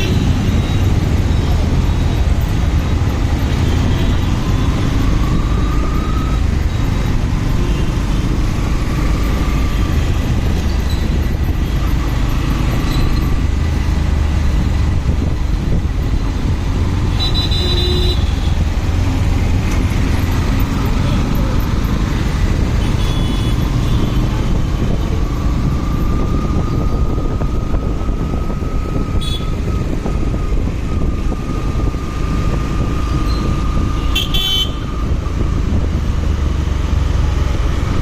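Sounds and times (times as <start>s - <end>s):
road rumble: 0.0s - 38.0s.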